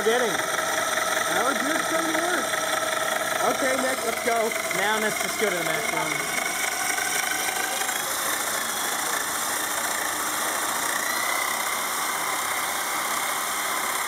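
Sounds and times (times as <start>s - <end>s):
drill and gears whirring: 0.0s - 14.0s.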